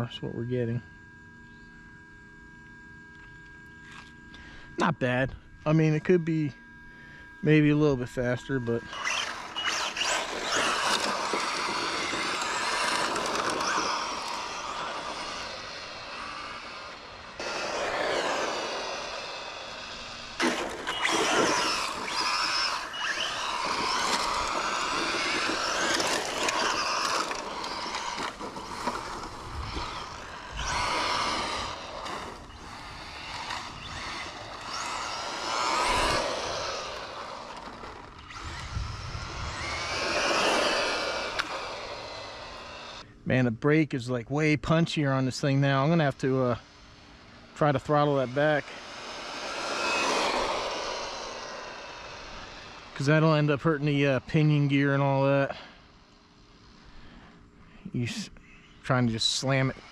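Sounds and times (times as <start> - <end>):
electric motor whining: 1.1 - 43.1, 45.5 - 57.3.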